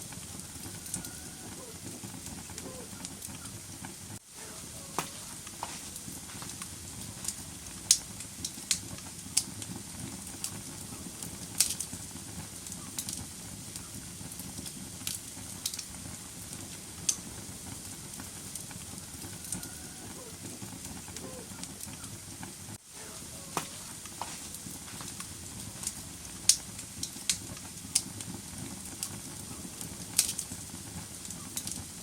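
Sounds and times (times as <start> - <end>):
fire crackling and popping: 0.0 - 32.0
fire rumbling in fireplace: 0.0 - 32.0.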